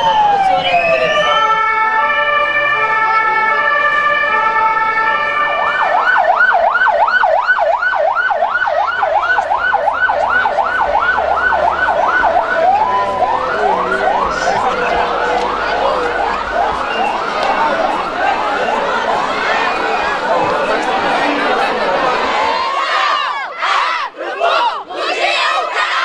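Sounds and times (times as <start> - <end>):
ambulance siren wailing and yelping: 0.0 - 23.1.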